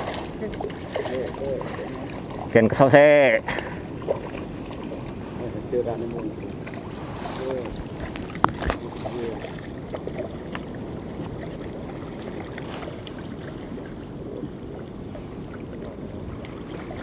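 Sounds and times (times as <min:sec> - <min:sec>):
water lapping: 0:00.0 - 0:17.0.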